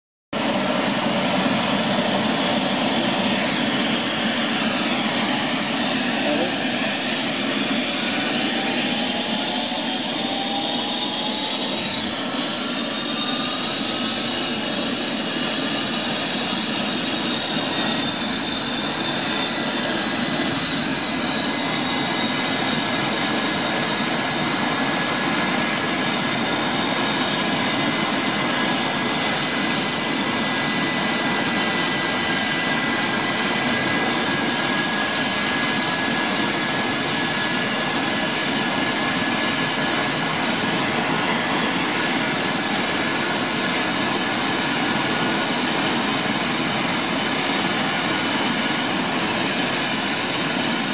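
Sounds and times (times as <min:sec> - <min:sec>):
helicopter turbine engines whining: 0:00.4 - 0:50.9
rushing of engines and rotor: 0:00.4 - 0:50.9.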